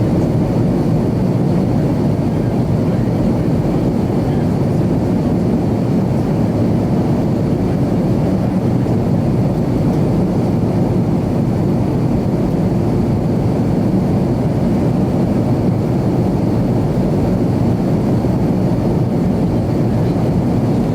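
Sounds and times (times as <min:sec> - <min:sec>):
airliner cabin engine rumble: 0:00.0 - 0:20.9.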